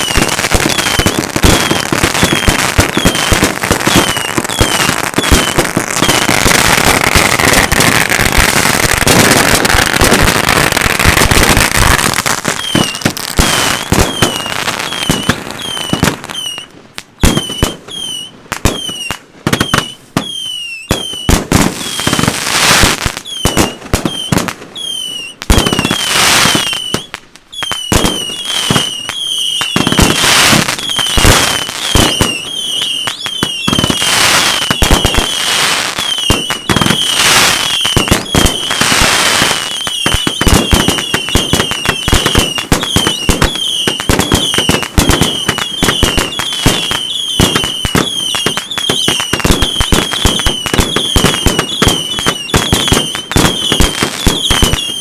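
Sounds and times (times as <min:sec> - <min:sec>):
firework bangs: 0:00.0 - 0:55.0
firework crackle: 0:00.0 - 0:55.0
firework whistles: 0:00.0 - 0:55.0.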